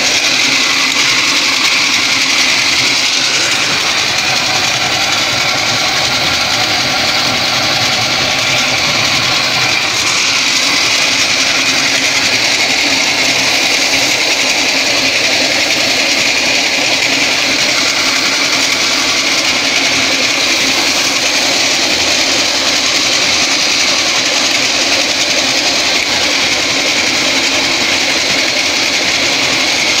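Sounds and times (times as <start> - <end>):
grain mill grinding: 0.0 - 30.0
motor hum: 0.0 - 30.0.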